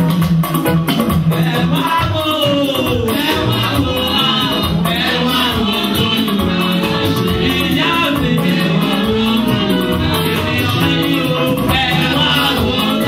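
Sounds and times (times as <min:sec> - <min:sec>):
upbeat music with percussion: 0:00.0 - 0:13.0
voices singing: 0:01.3 - 0:13.0.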